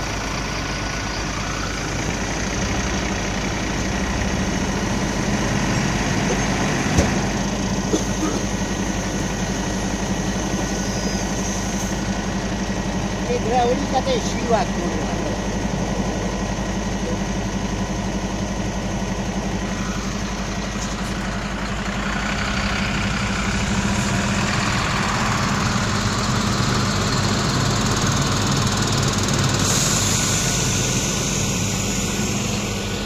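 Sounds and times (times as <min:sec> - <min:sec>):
truck diesel engine under load: 0:00.0 - 0:33.0.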